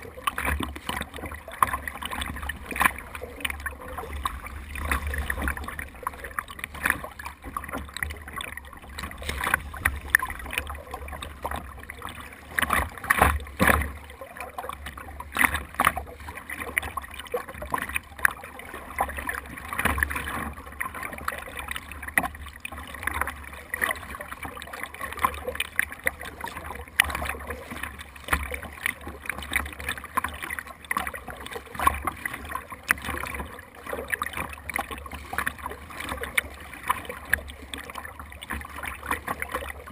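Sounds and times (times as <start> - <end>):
water splashing and sloshing: 0.0 - 39.9.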